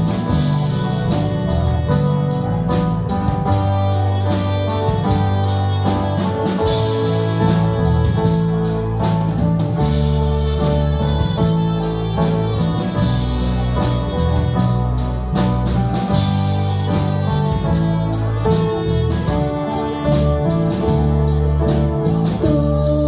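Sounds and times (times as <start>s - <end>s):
church band playing worship music: 0.0s - 23.0s.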